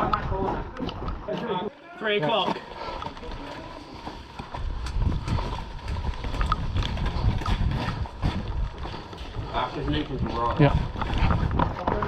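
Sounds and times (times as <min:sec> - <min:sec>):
hurried footsteps on hard floor: 0:02.3 - 0:12.0.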